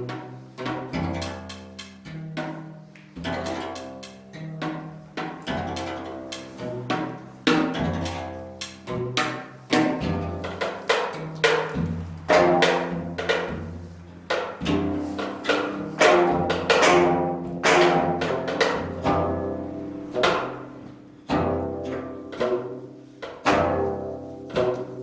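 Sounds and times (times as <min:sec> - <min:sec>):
plucked zither notes: 0:00.0 - 0:25.0.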